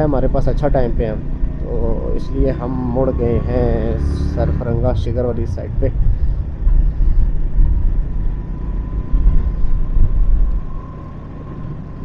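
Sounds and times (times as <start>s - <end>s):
motorcycle road noise: 0.0s - 12.0s
wind rumbling on microphone: 0.0s - 12.0s.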